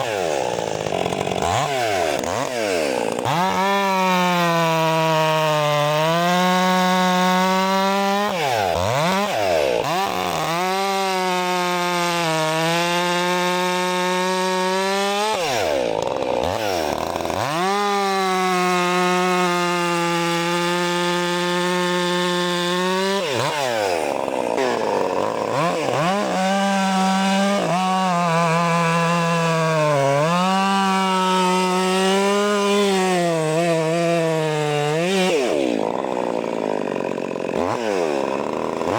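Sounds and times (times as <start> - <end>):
chainsaw running at full throttle: 0.0 - 38.9.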